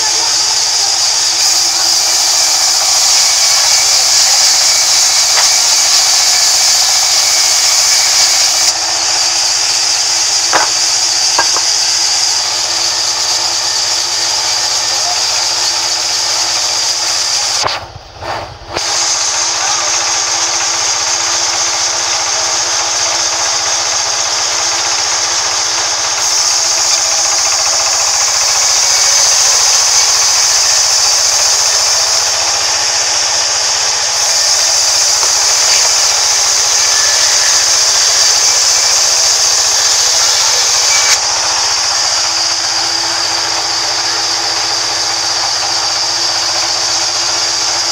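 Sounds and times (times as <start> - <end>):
band saw cutting wood: 0.0 - 47.9
sawmill machine hum: 0.0 - 47.9.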